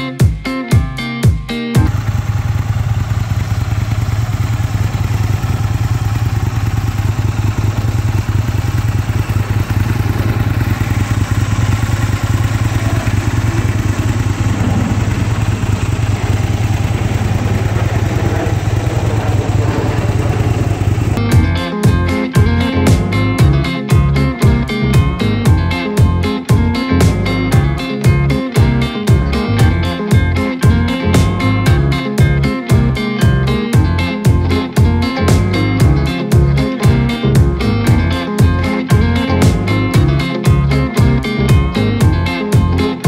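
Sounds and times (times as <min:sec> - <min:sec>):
motorcycle engine idling: 0:01.8 - 0:42.8.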